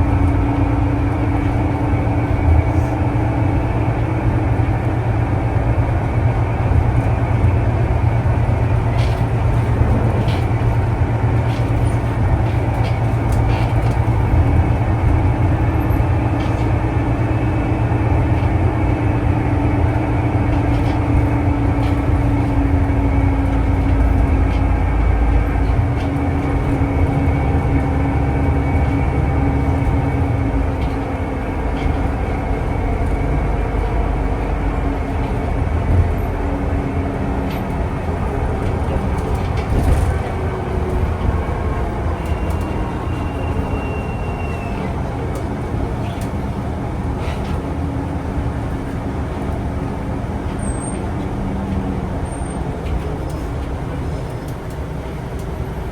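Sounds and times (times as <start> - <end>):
vehicle rumble: 0.0 - 55.9.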